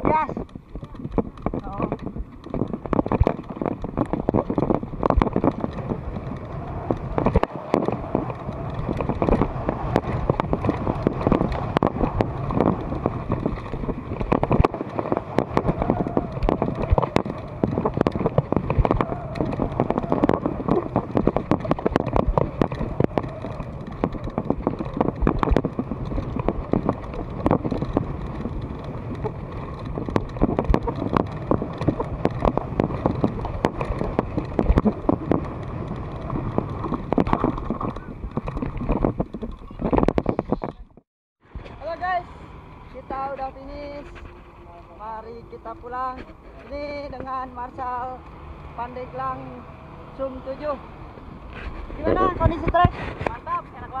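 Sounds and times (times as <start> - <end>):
bike clattering over bumps: 0.0 - 42.2, 42.9 - 54.0
bike tyres on dirt: 0.0 - 54.0
wind buffeting microphone: 0.0 - 54.0.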